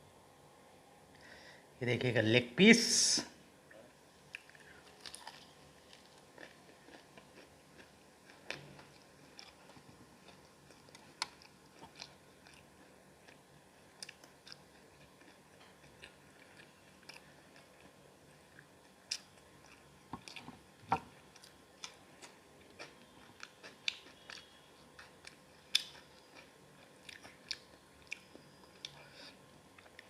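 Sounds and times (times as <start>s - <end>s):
chewing wet mouth sounds: 4.3s - 30.0s.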